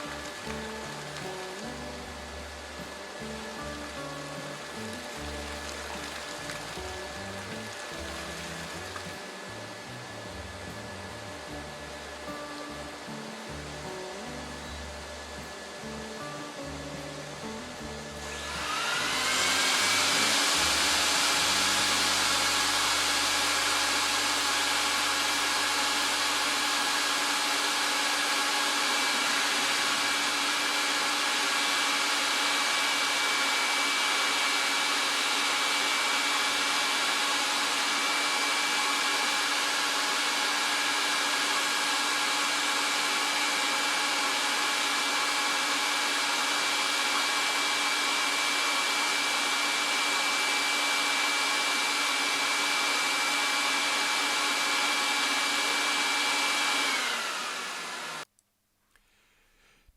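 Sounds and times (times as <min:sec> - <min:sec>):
vacuum cleaner running: 0:00.0 - 0:58.3.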